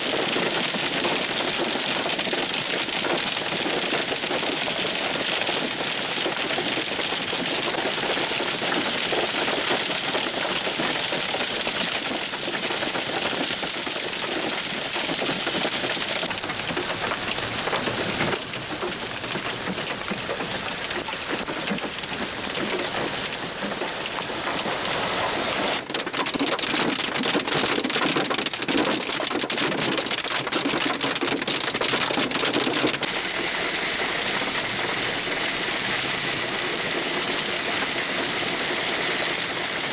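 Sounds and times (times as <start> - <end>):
heavy hail clattering: 0.0 - 39.9
sharp hail hits: 0.0 - 39.9.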